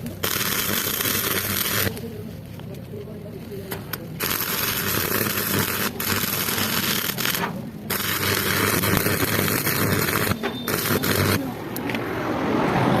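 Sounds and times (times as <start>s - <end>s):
harsh hiss and crackle: 0.0s - 12.2s.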